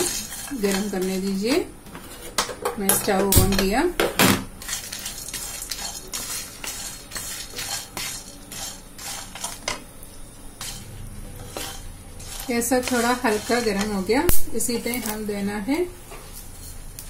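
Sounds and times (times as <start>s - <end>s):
spatula stirring spices in a pan: 0.0s - 3.3s, 4.5s - 17.0s.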